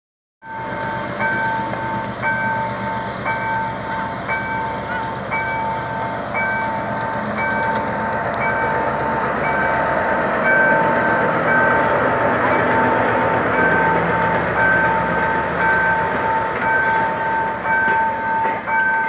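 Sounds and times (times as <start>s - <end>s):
diesel locomotive engine running: 0.4s - 19.0s.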